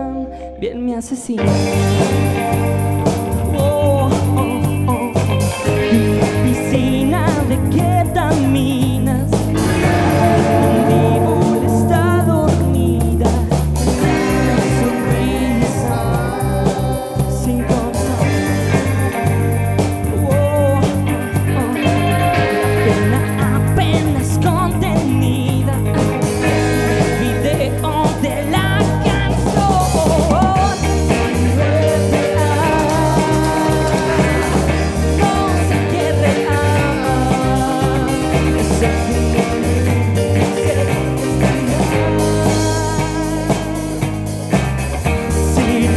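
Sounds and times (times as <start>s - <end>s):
lead singer singing: 0.0s - 44.2s, 45.0s - 45.9s
electric bass: 0.0s - 45.9s
electric guitars: 0.0s - 45.9s
keyboards: 0.0s - 45.9s
drum kit: 1.4s - 45.9s.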